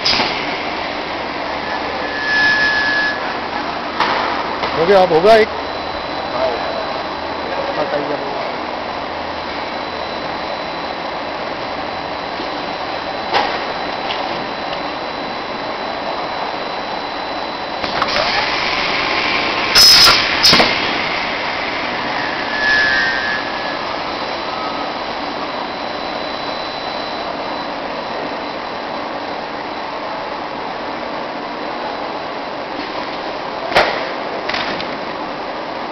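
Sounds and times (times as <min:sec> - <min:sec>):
machinery running: 0:00.0 - 0:31.1.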